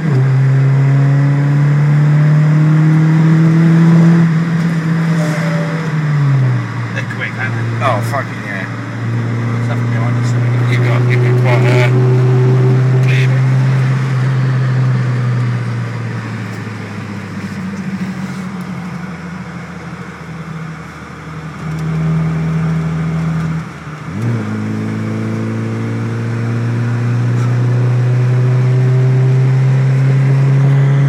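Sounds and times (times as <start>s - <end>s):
car engine heard from inside: 0.0s - 31.0s.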